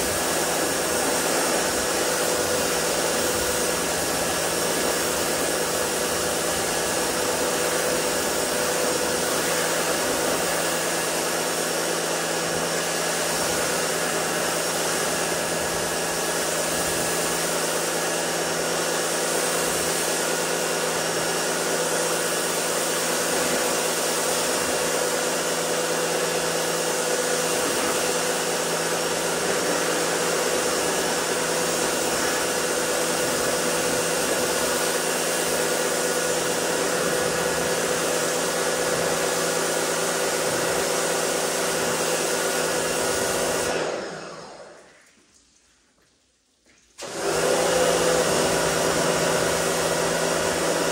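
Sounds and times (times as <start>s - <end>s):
pressure washer jet hissing: 0.0s - 45.0s, 47.0s - 50.9s.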